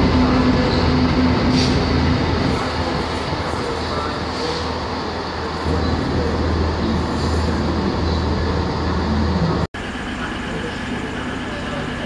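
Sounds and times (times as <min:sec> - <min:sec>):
diesel locomotive engine hum: 0:00.0 - 0:12.0.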